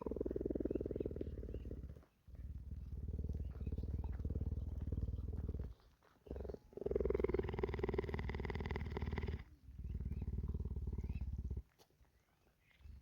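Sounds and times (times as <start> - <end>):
cheetah purring: 0.0 - 11.7.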